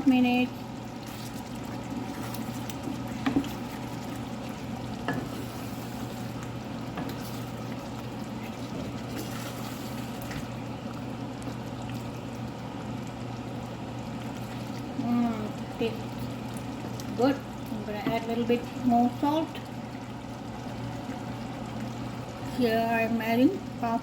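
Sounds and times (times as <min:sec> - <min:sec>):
oily gravy sizzling in a pan: 0:00.0 - 0:24.0.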